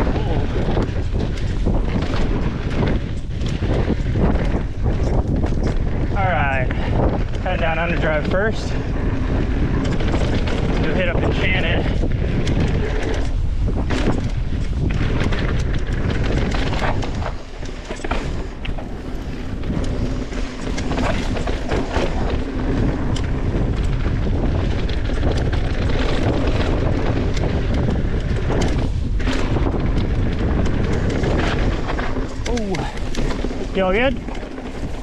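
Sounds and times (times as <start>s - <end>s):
bike rattling and clattering: 0.0s - 35.0s
bike tyres rumbling over dirt: 0.0s - 35.0s
wind buffeting microphone: 0.0s - 35.0s.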